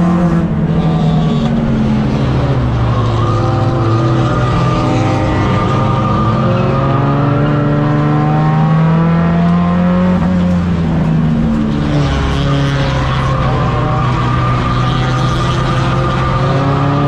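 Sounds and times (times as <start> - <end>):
race car engine from inside cabin: 0.0 - 17.0.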